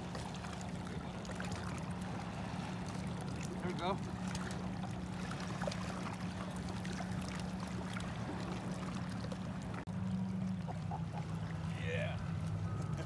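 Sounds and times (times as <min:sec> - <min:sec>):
small waves lapping on rocks: 0:00.0 - 0:13.0.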